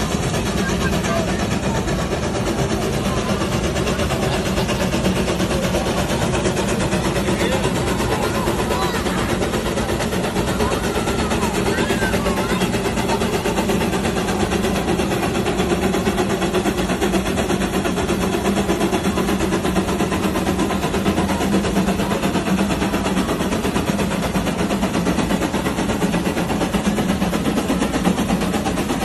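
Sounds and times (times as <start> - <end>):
steam traction engine chuffing: 0.0 - 29.0.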